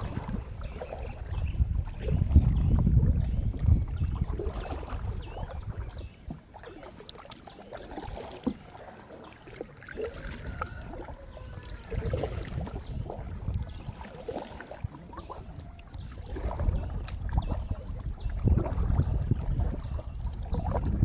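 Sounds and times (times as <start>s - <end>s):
wind rumble on microphone: 0.0s - 6.5s, 10.2s - 21.0s
paddle splashes and drips: 0.0s - 21.0s.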